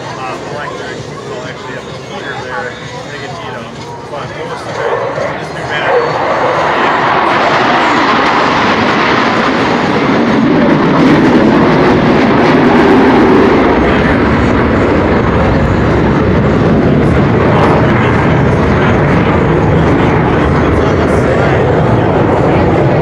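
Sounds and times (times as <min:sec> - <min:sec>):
aircraft engine flying over: 0:00.0 - 0:23.0.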